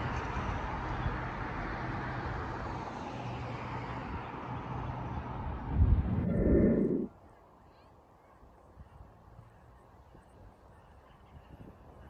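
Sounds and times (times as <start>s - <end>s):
distant rumble of vehicles: 0.0s - 12.0s.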